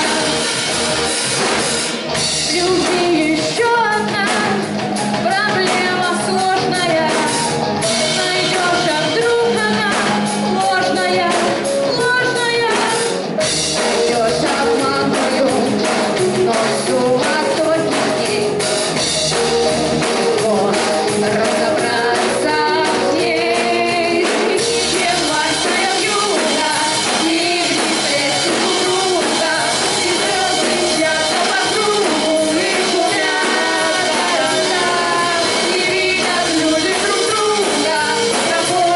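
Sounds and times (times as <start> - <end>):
bending lead guitar line: 0.0 - 38.9
live rock band playing: 0.0 - 38.9.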